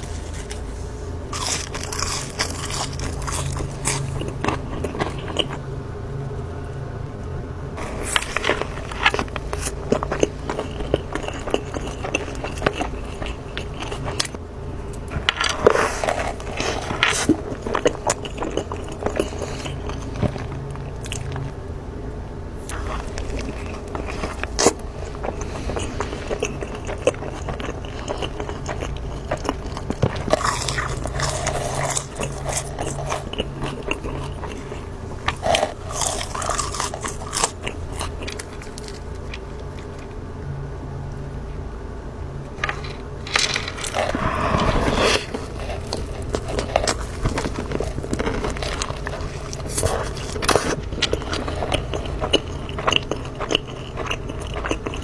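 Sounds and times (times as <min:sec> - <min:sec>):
crunchy chewing: 0:00.0 - 0:05.7, 0:07.8 - 0:21.7, 0:22.6 - 0:40.2, 0:42.5 - 0:55.0.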